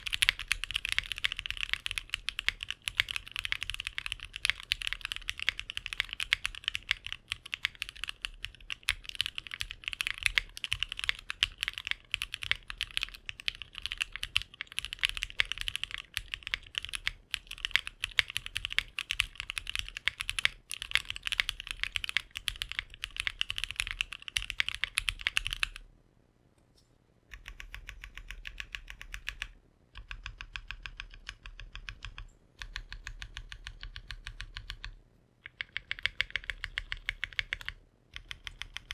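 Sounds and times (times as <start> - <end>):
mechanical keyboard typing: 0.0 - 25.8, 27.3 - 38.9.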